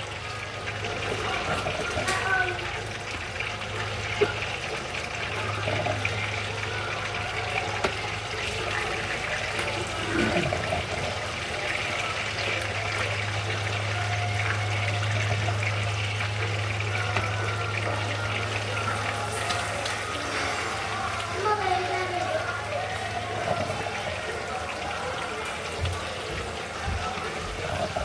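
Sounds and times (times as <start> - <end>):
water running: 0.0 - 28.0.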